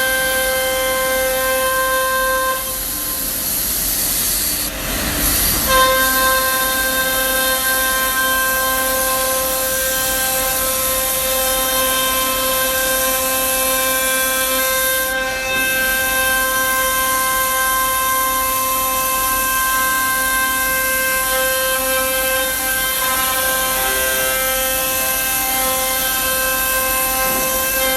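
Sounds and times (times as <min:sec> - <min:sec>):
router spindle whine: 0:00.0 - 0:27.9.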